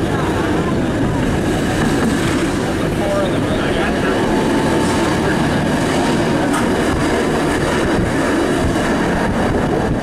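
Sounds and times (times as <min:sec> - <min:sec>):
streetcar wheels rumbling on rails: 0:00.0 - 0:10.0.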